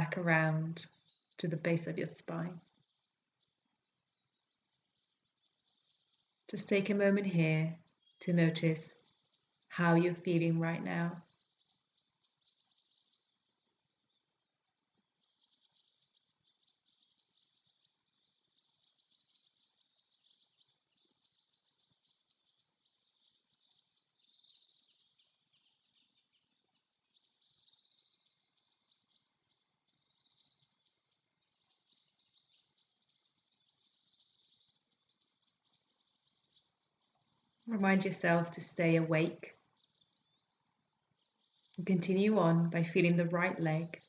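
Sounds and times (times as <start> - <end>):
small birds chirping and trilling: 0.0 - 44.0.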